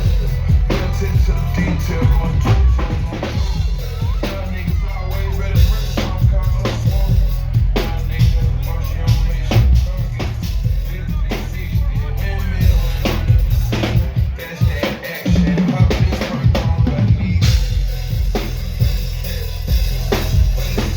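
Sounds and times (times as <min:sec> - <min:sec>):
drum kit played hard: 0:00.0 - 0:20.9
heavy bass: 0:00.0 - 0:20.9.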